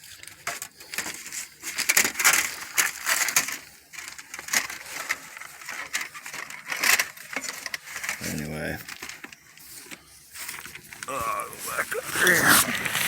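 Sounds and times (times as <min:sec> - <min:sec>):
rustling and crunching: 0:00.0 - 0:13.0.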